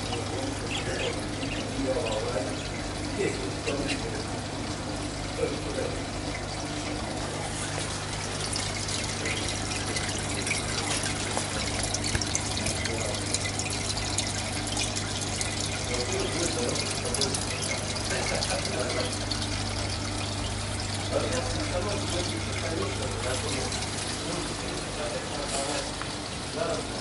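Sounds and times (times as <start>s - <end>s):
aquarium water bubbling and trickling: 0.0s - 27.0s
steady low hum: 0.0s - 27.0s.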